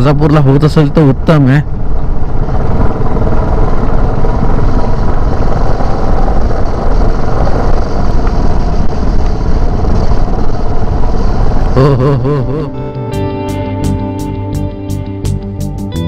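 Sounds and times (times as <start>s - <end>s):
wind and road noise: 0.0s - 16.0s
motorcycle engine cruising: 1.2s - 16.0s.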